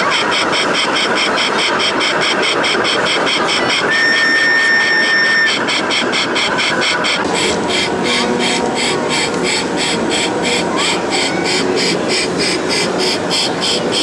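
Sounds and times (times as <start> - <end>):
toy tank engine running: 0.0 - 14.0.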